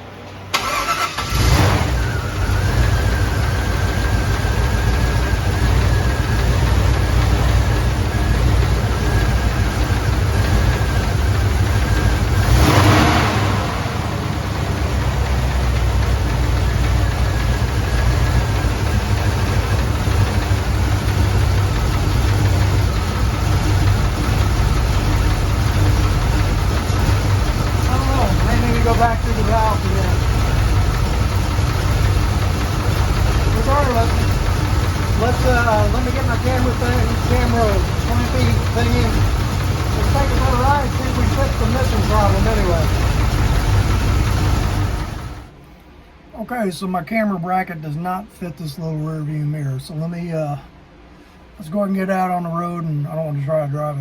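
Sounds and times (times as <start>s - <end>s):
car engine starting and running: 0.0s - 46.6s.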